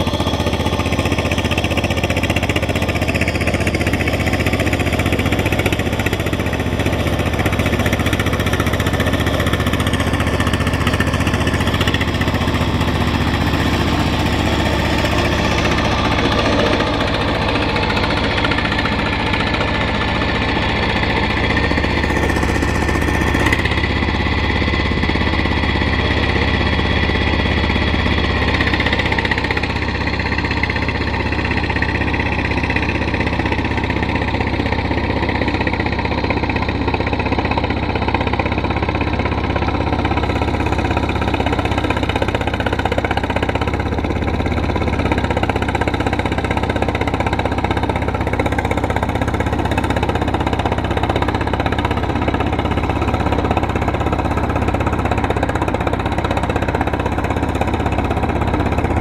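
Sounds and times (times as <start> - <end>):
diesel tractor engine running: 0.0 - 59.0.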